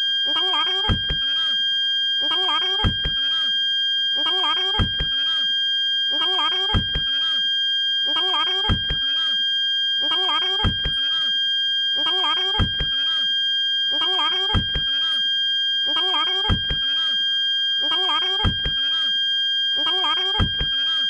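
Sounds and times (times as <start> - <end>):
parking sensor continuous tone: 0.0 - 21.0.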